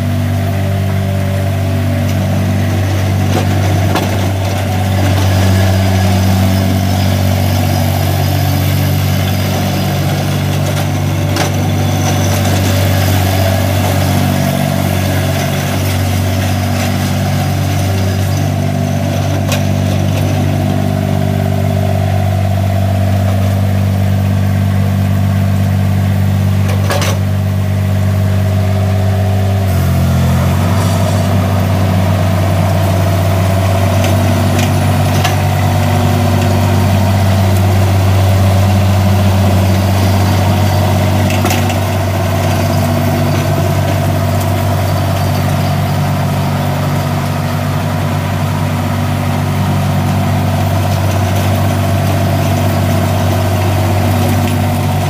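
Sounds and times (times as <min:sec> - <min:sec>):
diesel mower engine running: 0:00.0 - 0:55.0.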